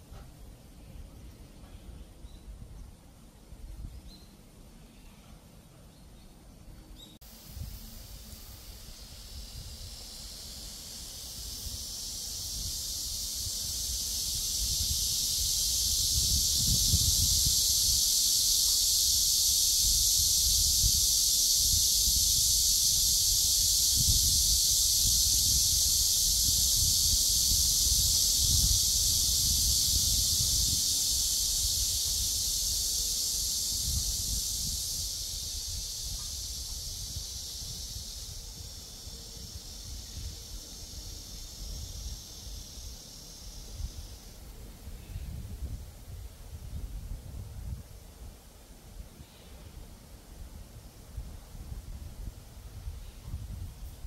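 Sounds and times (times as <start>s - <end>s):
cicadas buzzing: 0.0s - 54.0s
wind rumble on microphone: 7.4s - 44.2s, 44.8s - 48.4s, 49.7s - 54.0s.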